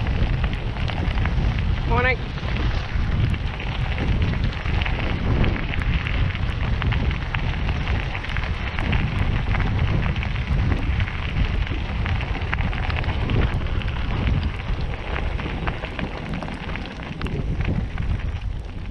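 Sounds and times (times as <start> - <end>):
bicycle tyres on gravel: 0.0 - 18.9
wind buffeting microphone: 0.0 - 18.9.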